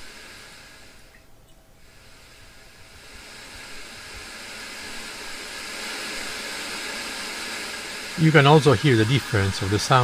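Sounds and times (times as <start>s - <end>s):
electronic hiss: 0.0s - 10.0s.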